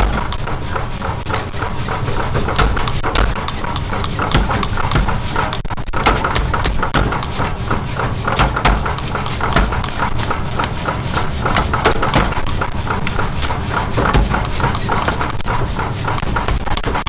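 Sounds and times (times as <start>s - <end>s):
machine motor hum: 0.0s - 17.0s
power hammer pounding iron: 0.0s - 17.0s.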